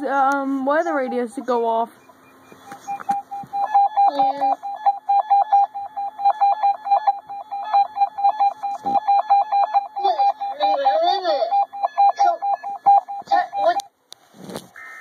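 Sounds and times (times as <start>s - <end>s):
rapid high electronic beeps: 0.8s - 13.9s.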